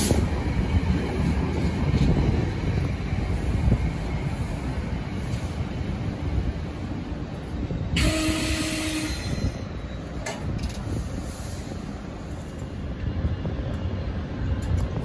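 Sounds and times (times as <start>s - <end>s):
train coaches rumbling past: 0.0s - 15.0s.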